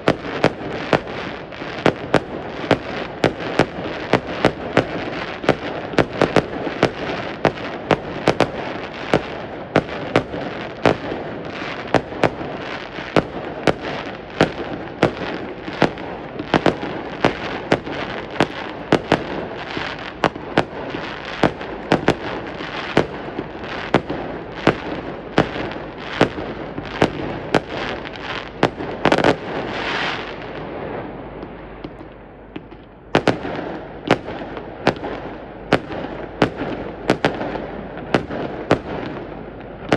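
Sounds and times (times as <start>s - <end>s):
fireworks crackling: 0.0s - 39.9s
fireworks sharp bangs: 0.0s - 39.9s.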